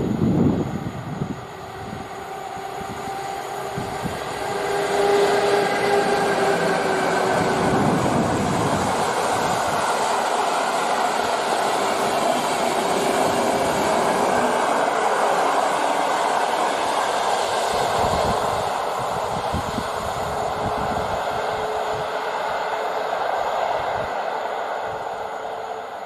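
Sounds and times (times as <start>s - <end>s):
train wheels rolling on track: 0.0s - 26.0s.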